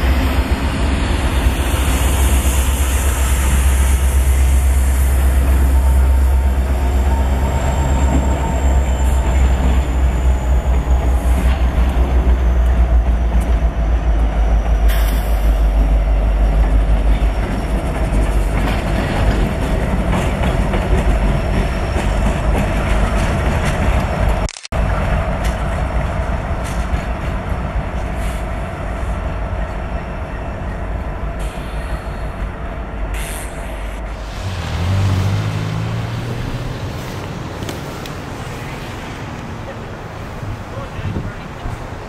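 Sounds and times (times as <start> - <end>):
freight locomotives passing: 0.0 - 42.0
wheels on rail rumbling: 0.0 - 42.0.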